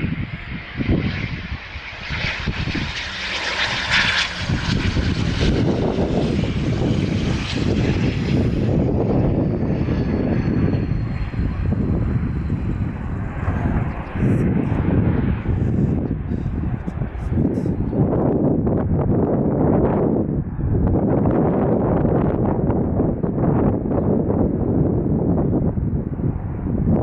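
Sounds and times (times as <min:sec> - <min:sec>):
jet engine roar: 0:00.0 - 0:27.0
jet engine whine sliding down: 0:00.0 - 0:27.0.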